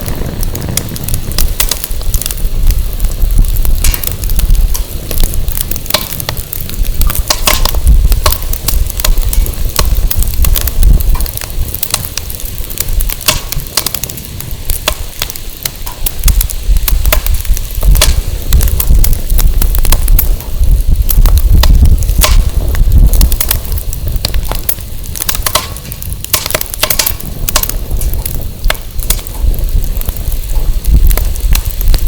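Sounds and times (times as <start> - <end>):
fire crackling and popping: 0.0 - 32.0
wind rumble on microphone: 0.0 - 32.0.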